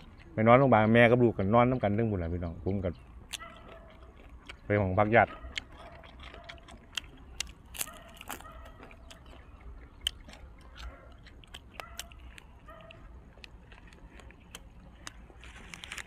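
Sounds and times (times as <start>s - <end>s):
chewing with crisp crunches: 0.0s - 16.0s.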